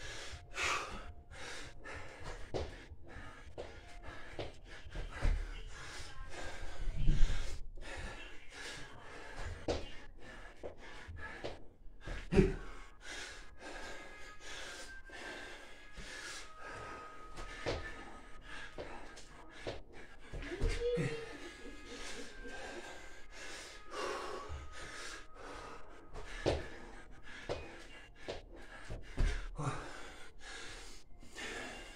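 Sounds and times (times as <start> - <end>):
man panting hard: 0.0 - 31.9.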